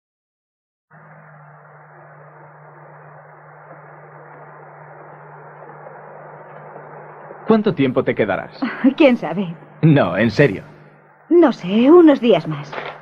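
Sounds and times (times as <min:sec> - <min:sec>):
soundtrack hiss with low hum: 0:00.9 - 0:13.0.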